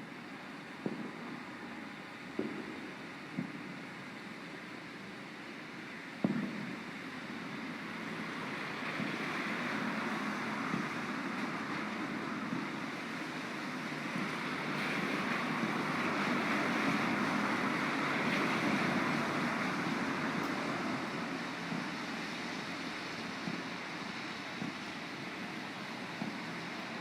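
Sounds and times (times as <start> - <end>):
rain rushing: 0.0 - 27.0.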